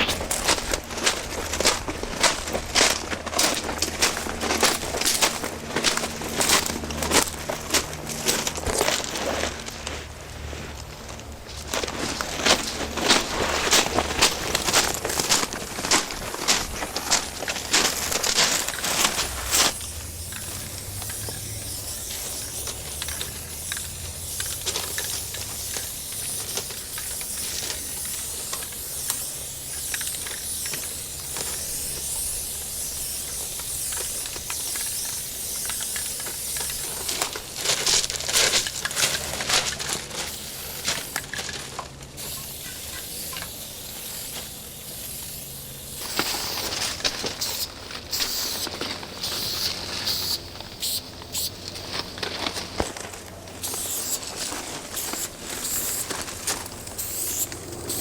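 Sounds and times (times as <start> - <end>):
spray paint can hissing: 0.0 - 9.0, 12.3 - 52.8, 53.5 - 58.0.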